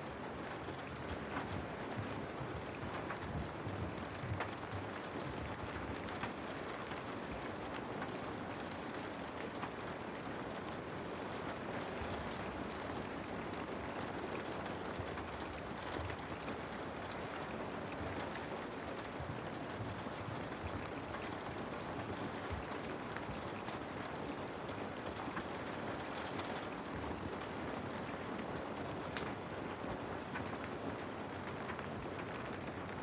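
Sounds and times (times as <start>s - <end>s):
rain hissing on a window: 0.0s - 33.0s.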